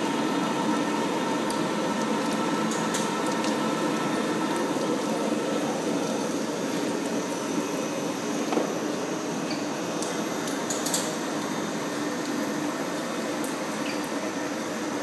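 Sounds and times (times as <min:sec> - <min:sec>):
machine hum with constant tones: 0:00.0 - 0:15.0.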